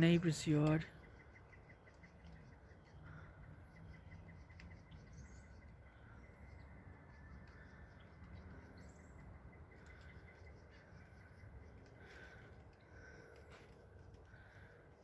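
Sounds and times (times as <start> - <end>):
faint songbirds chirping: 0.0 - 15.0
low background rumble: 0.0 - 15.0.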